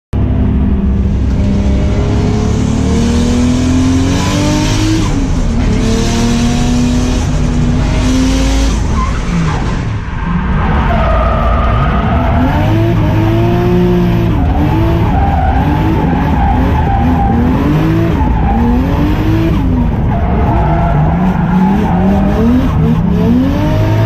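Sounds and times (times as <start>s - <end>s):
car engine revving hard: 0.2s - 9.9s, 10.9s - 24.0s.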